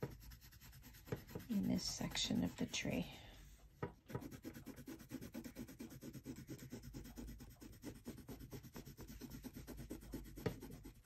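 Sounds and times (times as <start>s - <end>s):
pencil scratching on paper: 0.0s - 3.1s, 4.0s - 11.0s.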